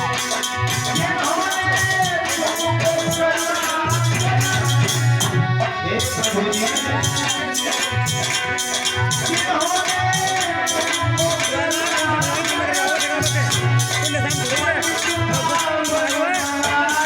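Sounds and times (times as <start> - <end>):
drum beat: 0.0 - 17.0.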